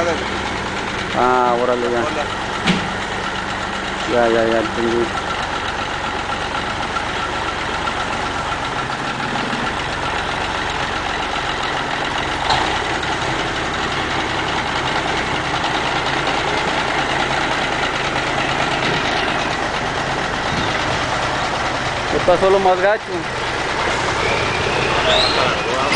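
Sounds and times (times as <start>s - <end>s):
diesel truck engine running: 0.0s - 25.9s.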